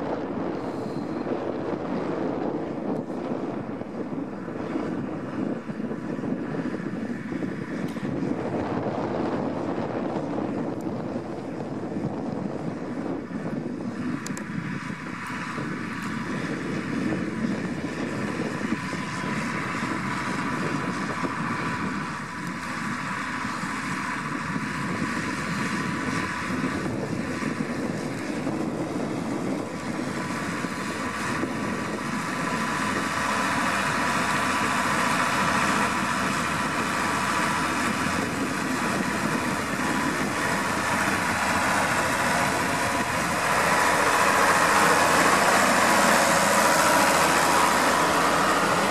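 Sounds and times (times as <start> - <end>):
tractor diesel engine under load: 0.0 - 48.9.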